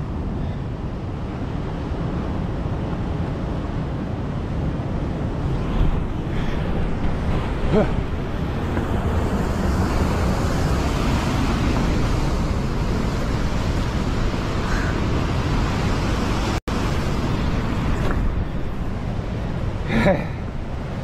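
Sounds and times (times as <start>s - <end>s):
wind buffeting the microphone: 0.0s - 21.0s
ocean surf breaking against cliff: 0.1s - 21.0s.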